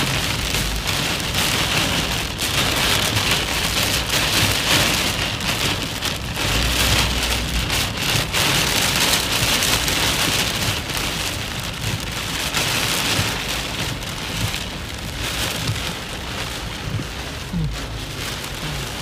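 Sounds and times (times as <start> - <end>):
heavy rain on car roof: 0.0 - 19.0.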